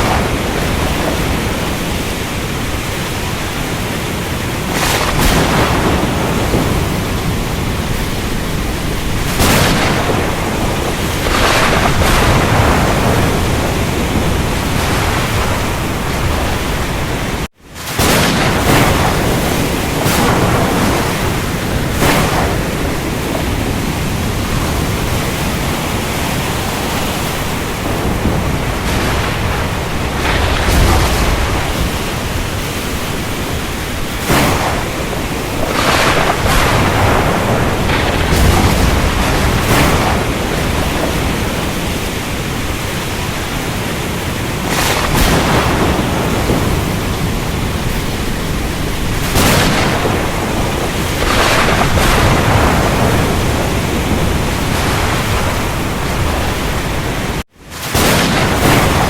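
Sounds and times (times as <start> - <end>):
breaking waves or thunder: 0.0 - 59.0
rain and surf rushing: 0.0 - 59.0.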